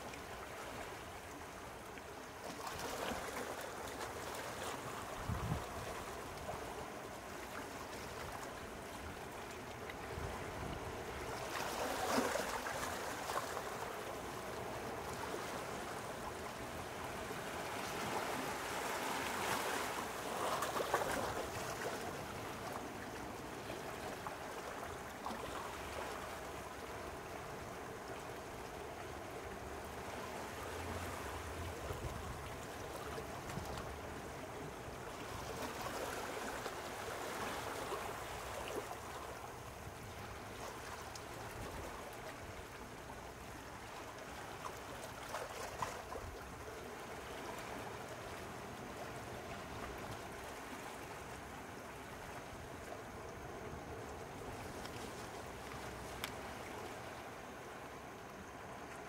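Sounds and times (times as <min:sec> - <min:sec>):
small waves lapping at shore: 0:00.0 - 0:59.0.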